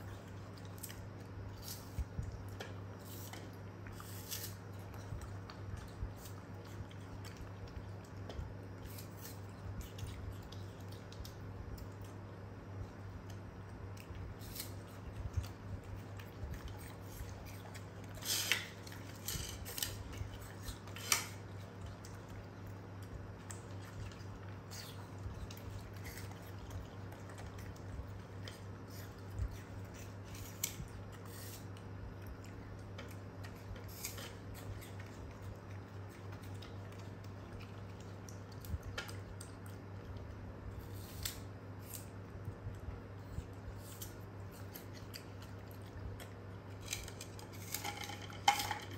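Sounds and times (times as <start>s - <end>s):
monkeys chewing apple: 0.0s - 48.1s.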